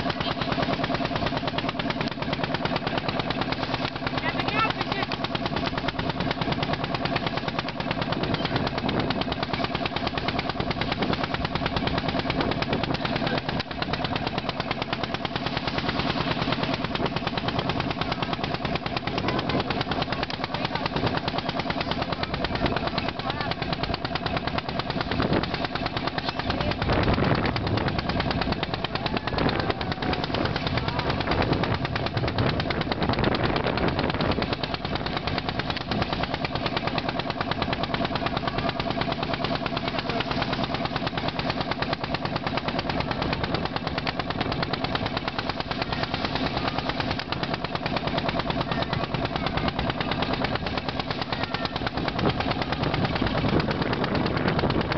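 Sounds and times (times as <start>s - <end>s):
boat engine knocking: 0.0s - 54.9s
wind: 0.0s - 54.9s.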